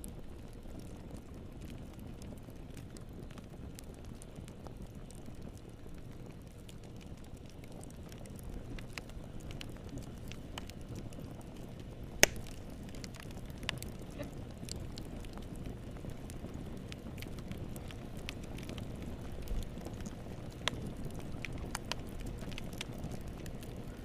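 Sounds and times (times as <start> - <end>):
sharp pops from fire: 0.0 - 24.0
wood fire crackling: 0.0 - 24.0.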